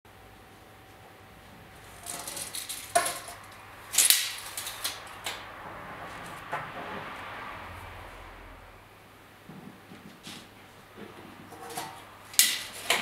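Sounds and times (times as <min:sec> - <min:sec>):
low workshop hum: 0:00.1 - 0:13.0.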